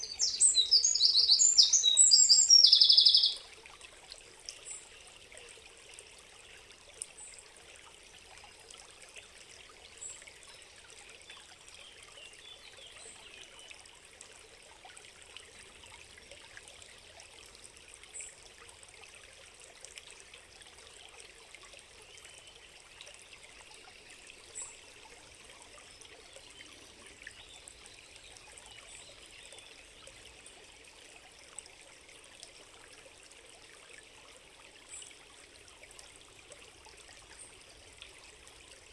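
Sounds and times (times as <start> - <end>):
trickling stream: 0.0 - 38.9.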